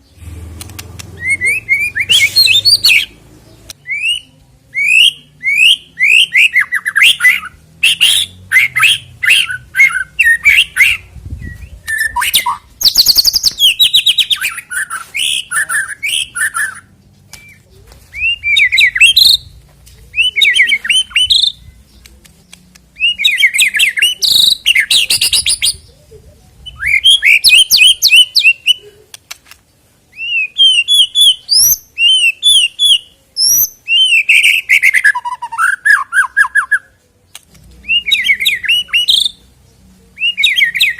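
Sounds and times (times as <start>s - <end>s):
bird singing whistles and chirps: 1.2s - 3.1s, 3.8s - 19.6s, 20.2s - 22.0s, 23.0s - 26.0s, 26.6s - 28.8s, 30.1s - 36.9s, 37.8s - 39.4s, 40.2s - 40.9s.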